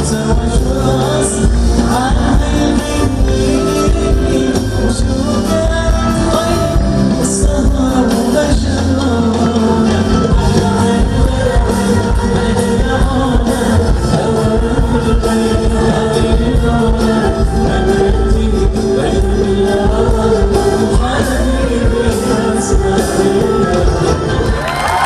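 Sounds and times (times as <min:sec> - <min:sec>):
man singing pop song: 0:00.0 - 0:24.8
live band playing: 0:00.0 - 0:25.0.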